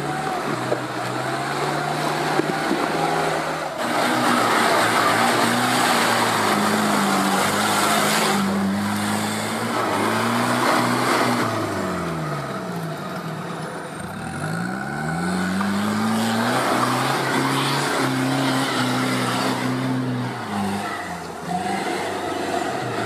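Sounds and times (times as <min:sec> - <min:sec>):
off-road engine running: 0:00.0 - 0:23.0.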